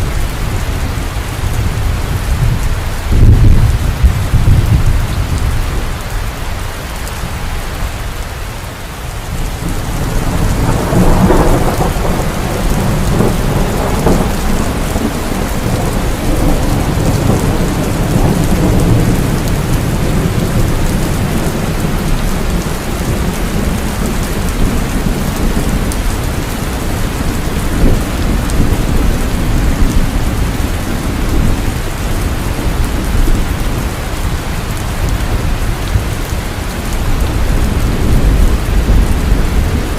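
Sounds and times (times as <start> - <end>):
rolling thunder: 0.0 - 6.0, 9.2 - 39.9
heavy rain: 0.0 - 39.9.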